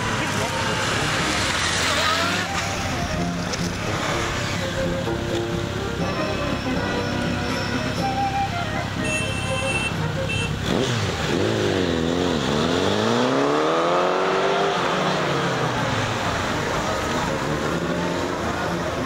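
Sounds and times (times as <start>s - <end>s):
motorcycle engines accelerating: 0.0s - 19.0s.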